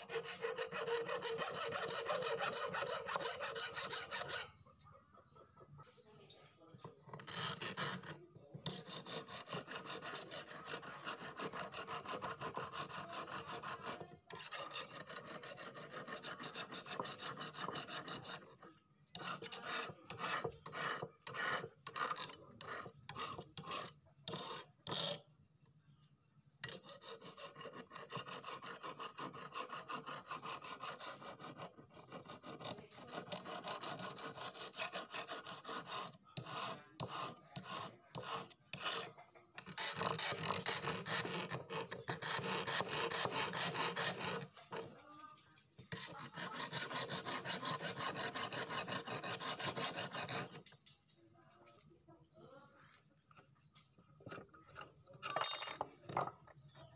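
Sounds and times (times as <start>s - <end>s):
file rasping on metal blade: 0.0s - 4.6s, 6.8s - 25.3s, 26.6s - 45.0s, 45.8s - 50.9s.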